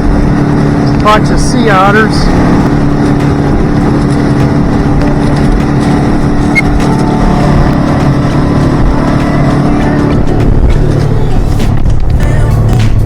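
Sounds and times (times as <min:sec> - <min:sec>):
motorboat engine humming: 0:00.0 - 0:13.0
rush of wind and water: 0:00.0 - 0:13.0.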